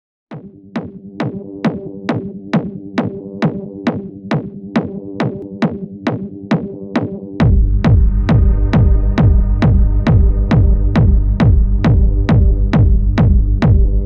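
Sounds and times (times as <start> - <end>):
electronic dance music: 0.3 - 14.0
deep bass: 0.7 - 14.0.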